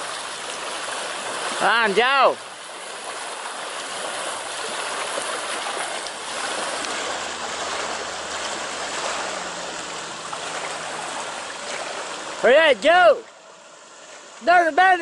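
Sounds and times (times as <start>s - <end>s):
distant boat engine hum: 0.0s - 14.6s.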